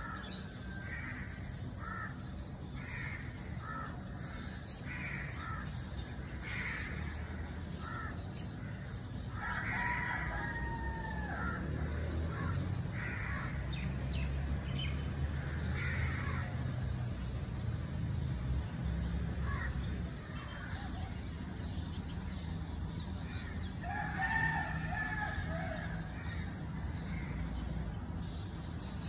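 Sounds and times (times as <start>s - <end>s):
birds calling: 0.0s - 29.0s.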